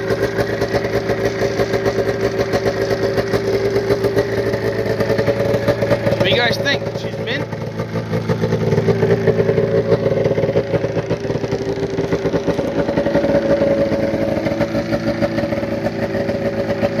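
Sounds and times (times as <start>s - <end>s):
snowmobile engine idling: 0.0s - 17.0s.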